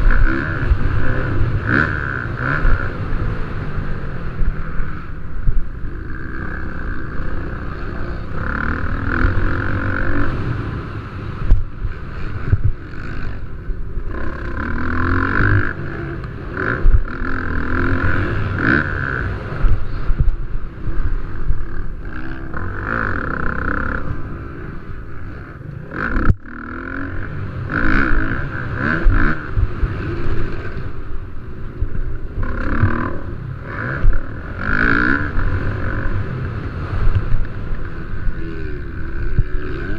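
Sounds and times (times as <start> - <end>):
dirt bike engines revving: 0.0 - 39.9
low rumble: 0.0 - 39.9.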